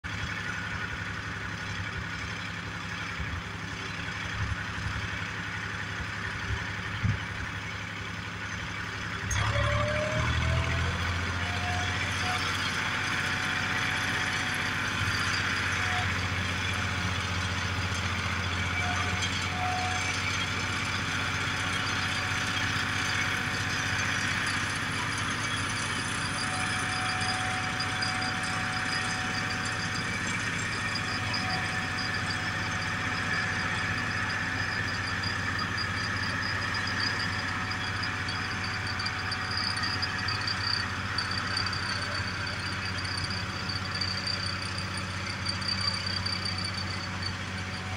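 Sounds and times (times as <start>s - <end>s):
crane engine running: 0.0s - 47.9s
rising engine whine: 0.0s - 47.9s.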